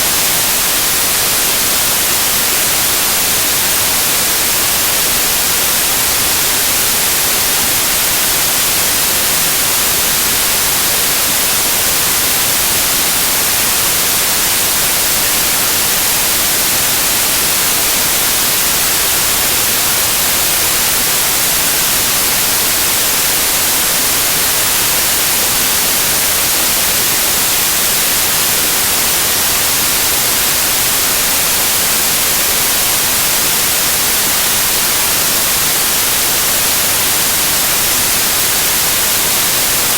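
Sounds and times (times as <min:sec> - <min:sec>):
loud white noise hiss: 0:00.0 - 0:39.9.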